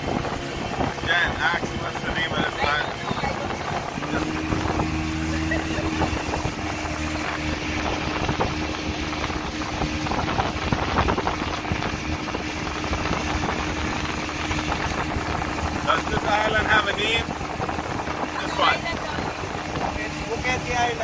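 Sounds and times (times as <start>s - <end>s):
outboard motor running: 0.0s - 21.0s
wind and water rushing: 0.0s - 21.0s.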